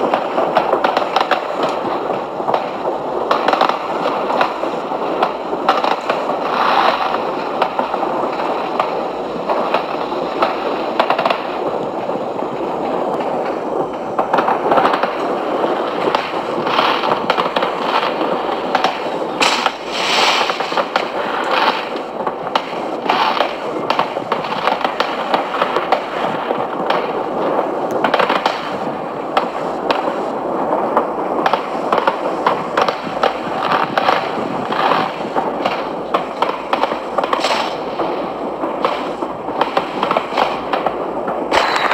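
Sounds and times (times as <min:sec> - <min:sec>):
fireworks bangs: 0:00.0 - 0:41.9
fireworks popping and crackling: 0:00.0 - 0:41.9.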